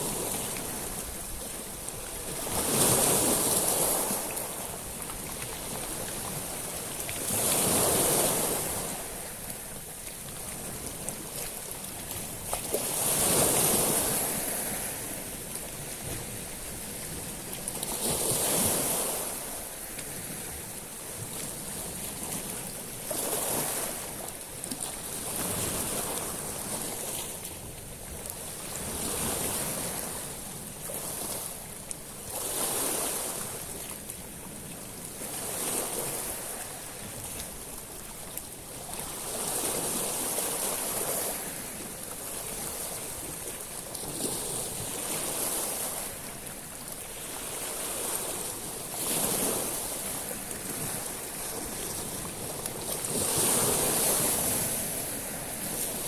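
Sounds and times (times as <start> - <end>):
waves washing over pebbles: 0.0 - 56.0.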